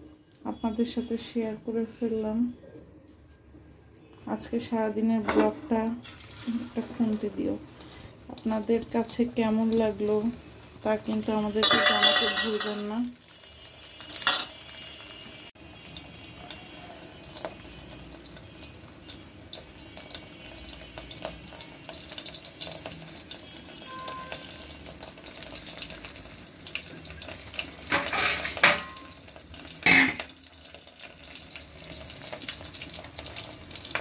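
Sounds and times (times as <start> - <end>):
omelette sizzling in a frying pan: 4.4 - 34.0.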